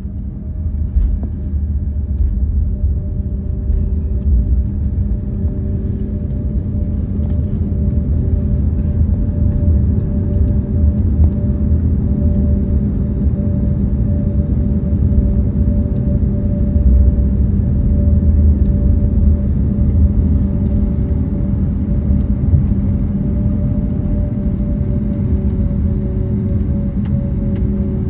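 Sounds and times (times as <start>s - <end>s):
aircraft engines humming: 0.0s - 28.0s
heavy low rumble: 0.0s - 28.0s.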